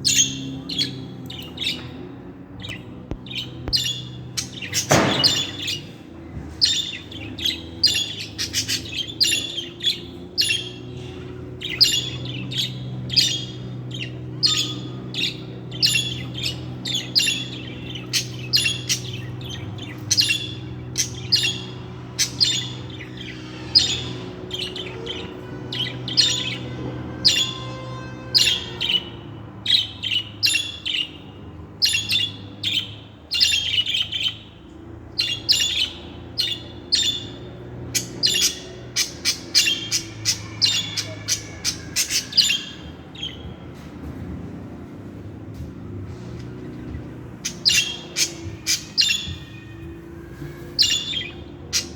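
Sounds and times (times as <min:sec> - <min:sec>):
budgerigars chirping and chattering: 0:00.0 - 0:51.9.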